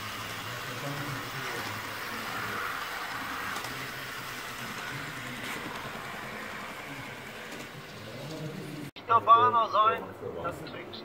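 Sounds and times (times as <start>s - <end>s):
model locomotive humming: 0.0s - 8.9s.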